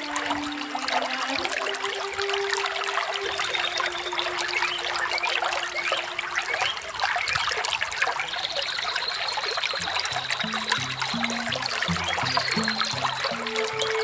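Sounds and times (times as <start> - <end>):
small waterfall splashing: 0.0 - 14.0.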